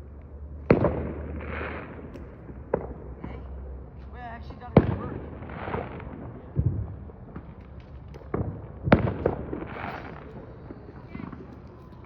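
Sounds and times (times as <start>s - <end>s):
fireworks bangs: 0.5s - 3.8s, 4.4s - 12.0s
fireworks crackling: 0.5s - 12.0s.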